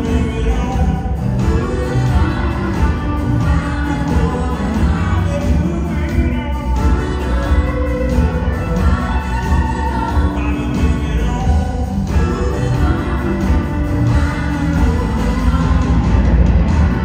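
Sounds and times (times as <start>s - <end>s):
bass: 0.0s - 17.0s
drums: 0.0s - 17.0s
electric guitar: 0.0s - 17.0s.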